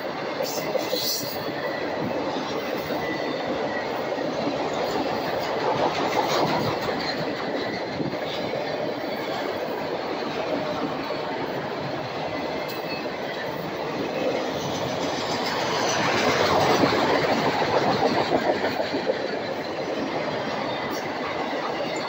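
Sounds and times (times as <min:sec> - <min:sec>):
freight train wheels rumbling: 0:00.0 - 0:22.0
sharp train wheel clacks: 0:00.4 - 0:11.1, 0:11.9 - 0:22.0.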